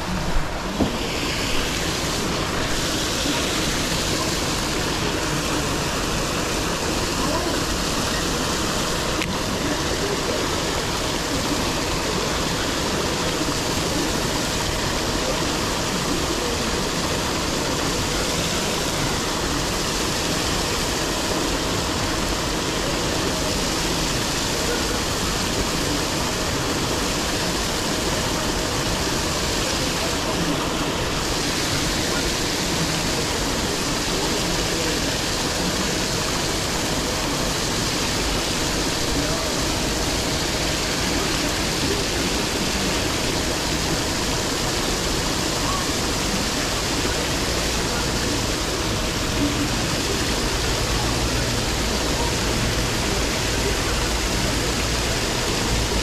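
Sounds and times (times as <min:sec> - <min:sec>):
aerators churning water: 0:00.0 - 0:56.0.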